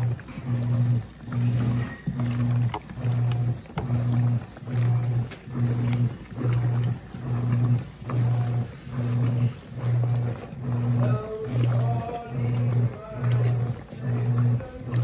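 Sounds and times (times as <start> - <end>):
soapy water sloshing: 0.0 - 15.0
washing machine motor humming: 0.0 - 15.0.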